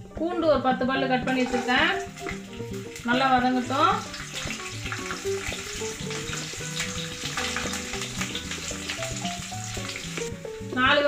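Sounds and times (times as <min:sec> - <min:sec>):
background music: 0:00.0 - 0:11.0
oil sizzling in a pan: 0:01.0 - 0:11.0.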